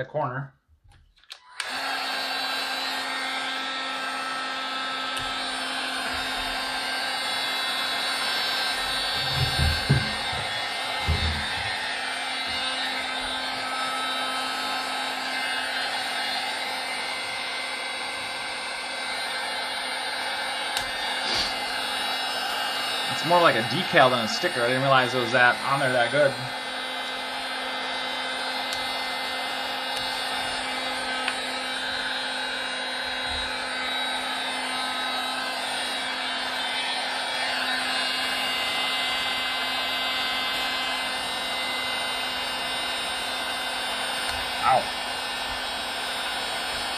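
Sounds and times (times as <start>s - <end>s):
heat gun fan humming: 1.1s - 46.9s.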